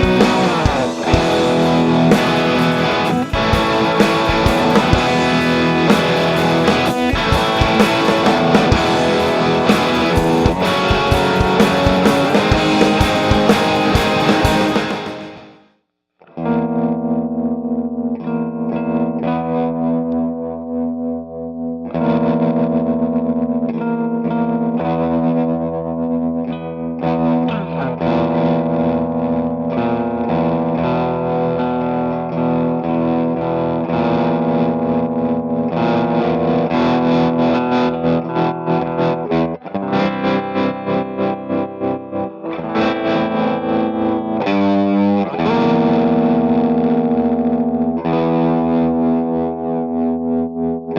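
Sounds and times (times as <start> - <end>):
overdriven electric guitar chords: 0.0 - 15.6, 16.2 - 50.9.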